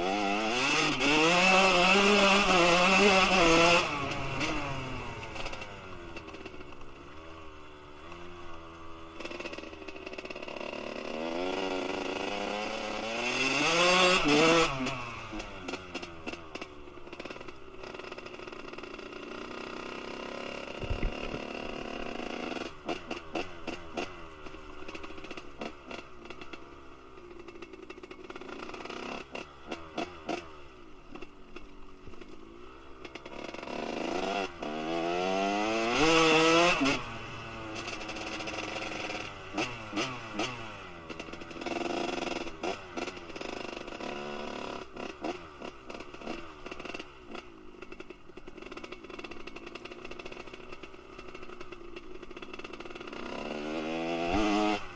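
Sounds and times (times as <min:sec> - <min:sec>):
motocross engine revving: 0:00.0 - 0:06.9, 0:08.0 - 0:26.6, 0:27.4 - 0:31.6, 0:32.2 - 0:54.9.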